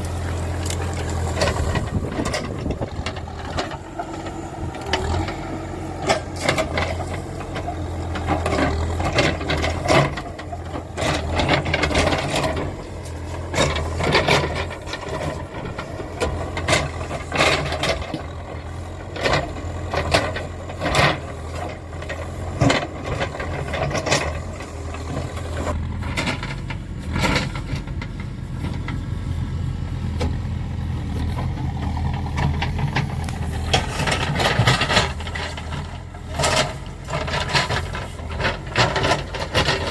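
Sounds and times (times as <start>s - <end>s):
machine clanks and rattles: 0.0s - 29.0s, 31.2s - 39.9s
diesel engine running: 0.0s - 39.9s.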